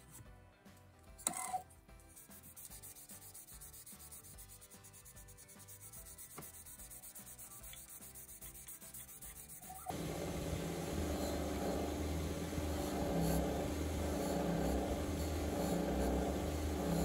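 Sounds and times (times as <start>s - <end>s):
abrasive paper scrubbing: 2.6s - 17.0s.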